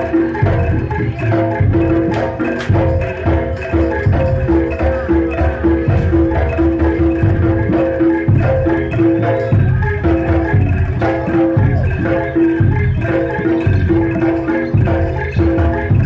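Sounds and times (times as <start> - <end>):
gong-chimes and metallophones: 0.0 - 16.0.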